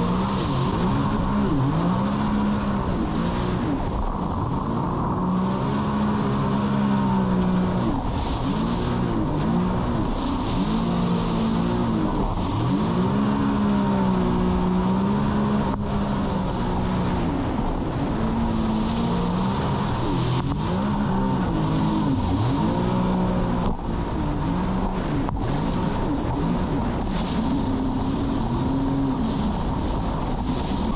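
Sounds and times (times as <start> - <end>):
jet ski engine running: 0.0 - 30.9
rush of wind and water: 0.0 - 30.9.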